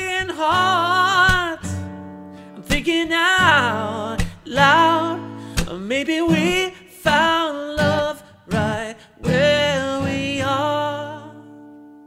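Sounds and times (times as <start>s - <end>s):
man singing: 0.0s - 11.6s
strummed acoustic guitar: 0.0s - 12.0s.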